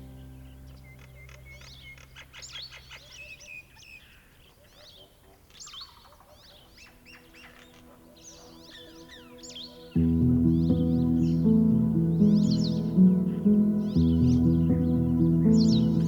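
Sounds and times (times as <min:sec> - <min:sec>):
soft background music: 0:00.0 - 0:03.4, 0:06.1 - 0:16.0
songbirds singing: 0:00.0 - 0:16.0.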